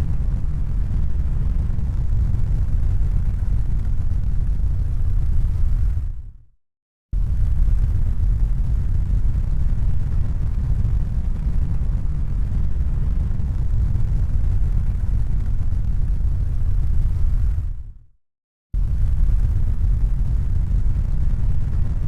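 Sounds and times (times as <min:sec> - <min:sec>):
steady low rumbling noise: 0:00.0 - 0:06.4, 0:07.2 - 0:18.0, 0:18.8 - 0:22.0.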